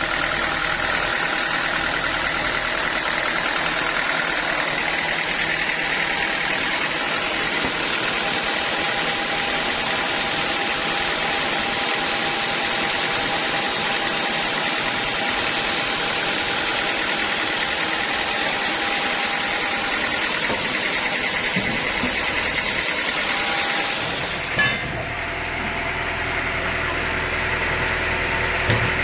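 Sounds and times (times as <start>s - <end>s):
high machine whine: 0.0s - 29.0s
sawmill machinery din: 0.0s - 29.0s.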